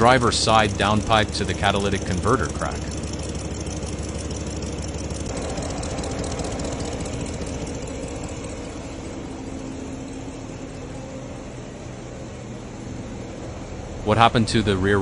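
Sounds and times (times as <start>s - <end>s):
engine idling with exhaust ticking: 0.0s - 15.0s.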